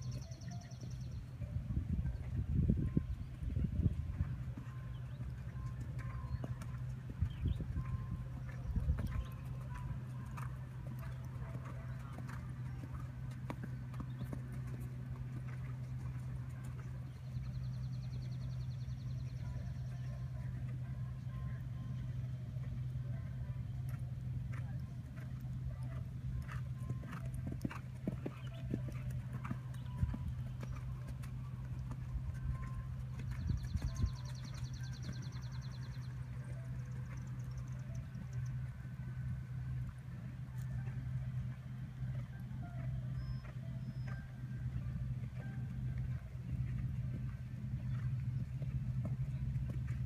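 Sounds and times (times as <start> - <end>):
steady low hum: 0.0 - 50.0
horse hoofbeats on sand: 2.0 - 50.0.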